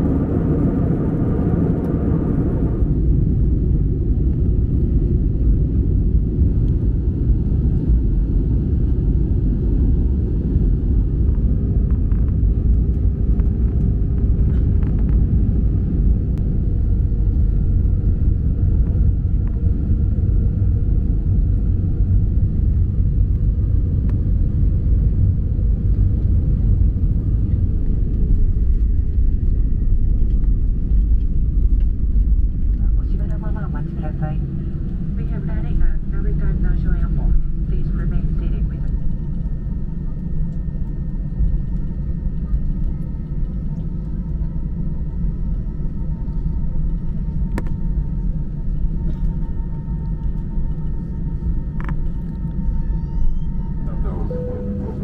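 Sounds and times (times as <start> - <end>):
jet engine cabin rumble: 0.0 - 55.0.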